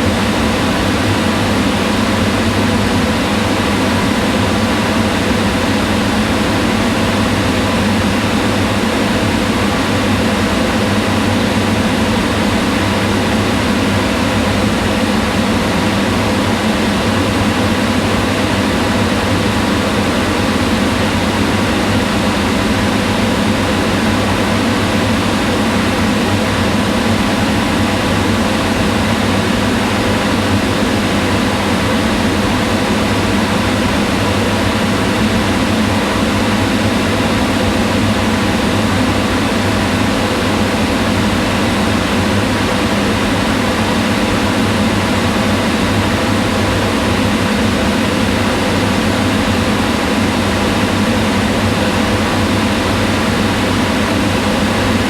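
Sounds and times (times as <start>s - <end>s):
range hood exhaust fan running: 0.0s - 55.0s.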